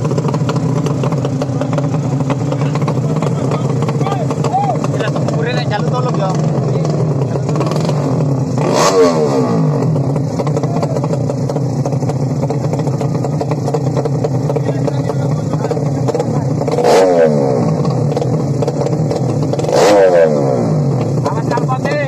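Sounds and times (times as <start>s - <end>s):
motorcycle engine drone: 0.0s - 22.0s
motorcycle passing at high revs: 0.0s - 22.0s.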